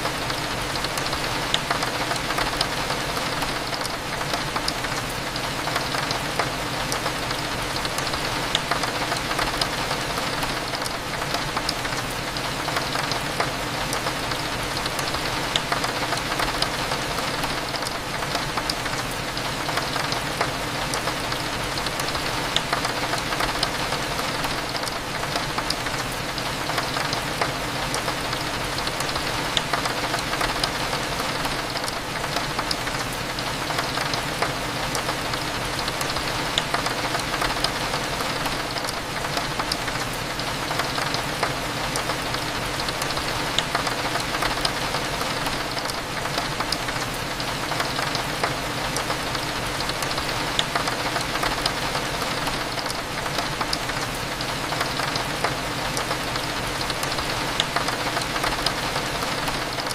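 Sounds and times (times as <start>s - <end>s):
rain on window glass: 0.0s - 59.9s.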